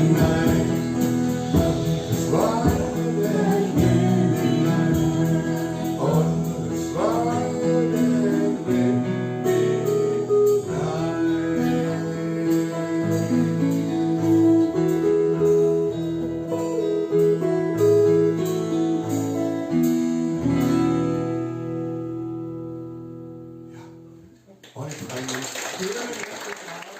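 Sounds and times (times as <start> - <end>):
held instrument notes: 0.0 - 22.6
acoustic guitar strumming: 0.0 - 24.4.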